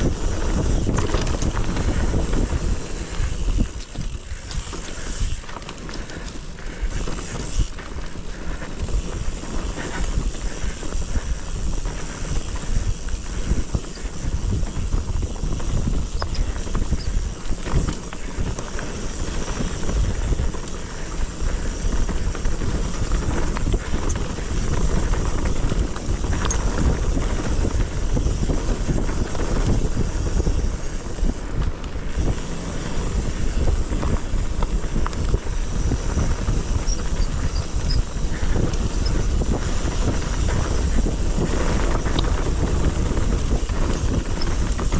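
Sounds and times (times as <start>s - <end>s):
rumble and crackle of riding: 0.0s - 44.9s
wind buffeting microphone: 0.0s - 44.9s.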